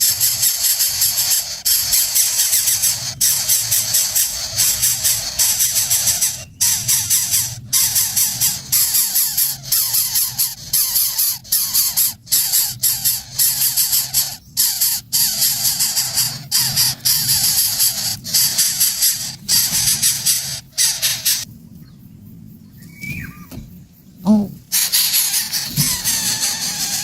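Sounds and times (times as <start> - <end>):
nestling birds hissing: 0.0 - 27.0.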